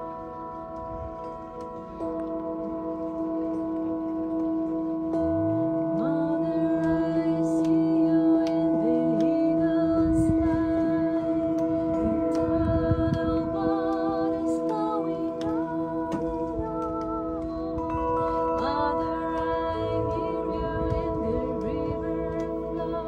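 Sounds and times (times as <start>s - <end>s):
singing bowls ringing: 0.0s - 23.0s
sliding wavering tones: 0.0s - 23.0s.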